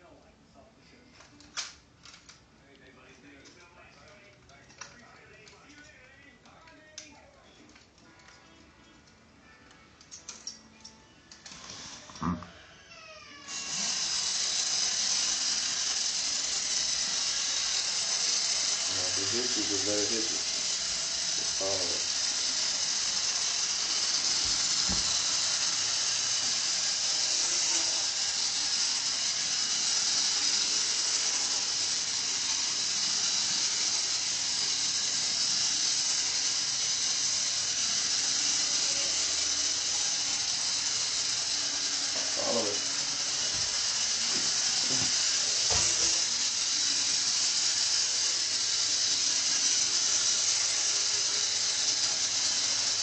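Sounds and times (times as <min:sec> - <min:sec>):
toy electric motor whirring: 0:01.2 - 0:02.4, 0:03.0 - 0:53.0.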